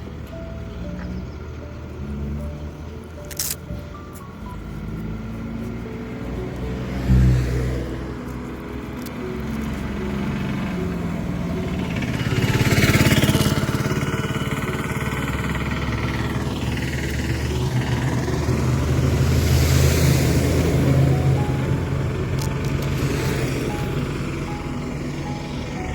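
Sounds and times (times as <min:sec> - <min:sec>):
wind and road noise: 0:00.0 - 0:25.9
motorcycle engine running: 0:02.0 - 0:25.9.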